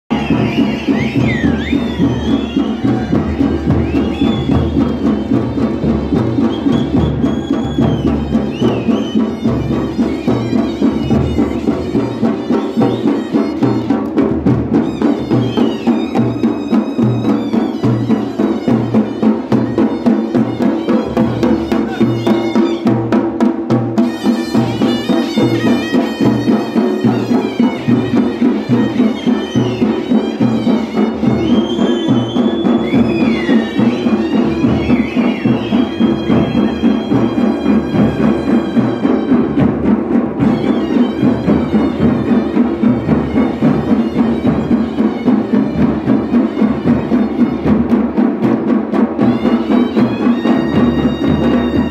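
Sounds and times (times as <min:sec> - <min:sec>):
dhol drums beating: 0:00.1 - 0:51.9
high wind instrument melody: 0:00.1 - 0:51.9.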